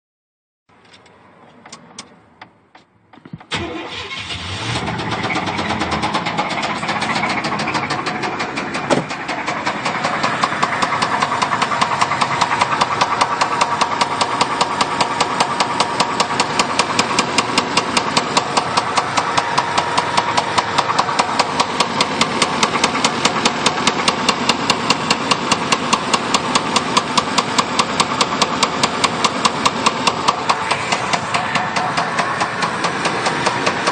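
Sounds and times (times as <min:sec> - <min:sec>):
car engine starting and idling: 0:00.8 - 0:33.9
engine tapping knock: 0:05.4 - 0:33.9.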